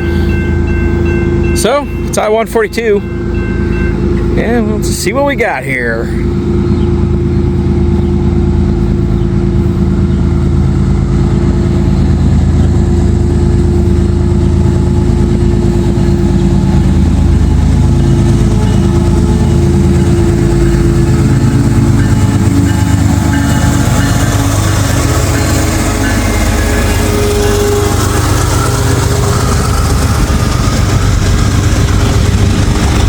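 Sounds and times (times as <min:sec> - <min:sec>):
freight locomotive passing: 0:00.0 - 0:33.0.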